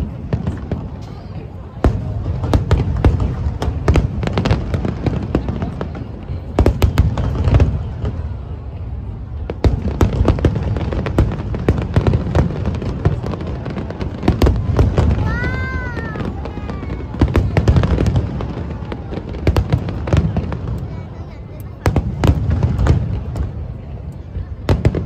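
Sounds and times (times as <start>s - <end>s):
fireworks cracks and booms: 0.0s - 25.0s.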